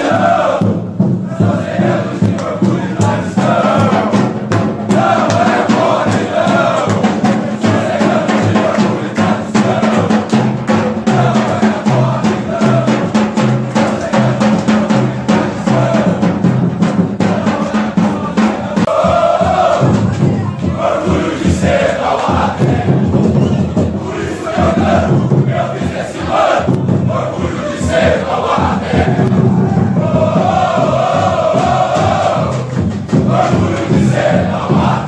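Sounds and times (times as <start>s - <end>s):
drums beating: 0.0s - 35.0s
football supporters chanting: 0.0s - 35.0s.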